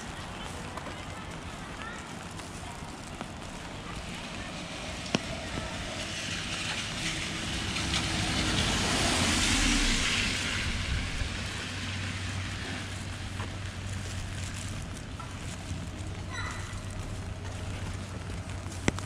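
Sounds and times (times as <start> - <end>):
car tyres hissing on wet road: 0.0 - 19.0
steady rain: 0.0 - 19.0.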